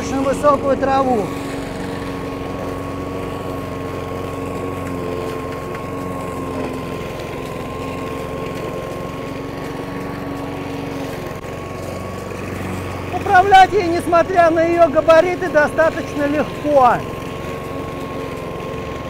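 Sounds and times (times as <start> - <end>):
lawn mower engine mowing grass: 0.0 - 19.0.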